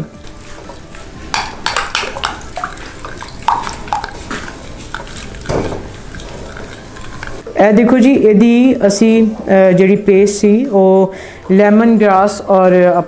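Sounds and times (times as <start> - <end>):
liquid swishing in bowl: 0.2 - 12.4.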